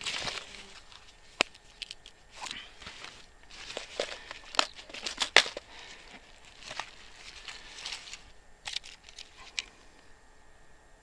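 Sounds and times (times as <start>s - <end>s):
soft rustling: 0.0s - 10.2s.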